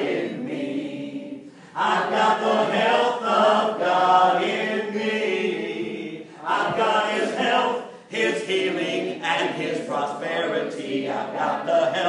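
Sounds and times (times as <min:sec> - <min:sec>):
group singing gospel chorus: 0:00.0 - 0:12.0.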